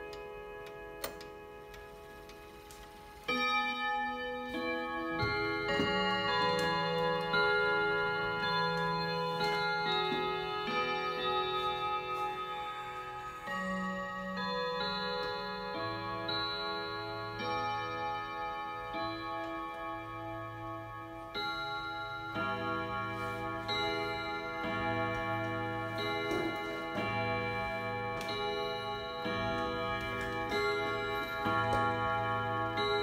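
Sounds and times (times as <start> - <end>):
clock gongs chiming melody: 0.0 - 33.0.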